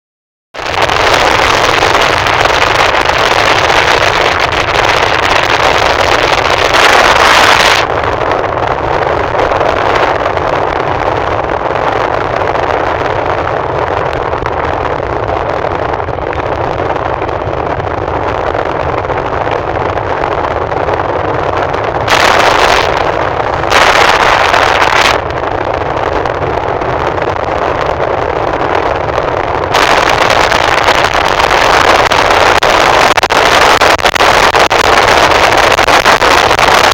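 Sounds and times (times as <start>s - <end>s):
car road and wind noise: 0.6s - 36.9s
wind buffeting microphone: 0.6s - 36.9s.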